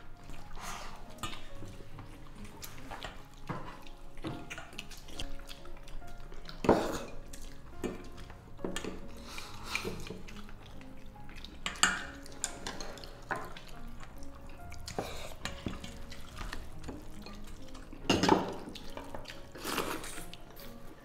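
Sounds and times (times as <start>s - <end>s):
utensils clinking against bowls: 0.1s - 21.0s
liquid dripping and splashing: 0.2s - 20.6s.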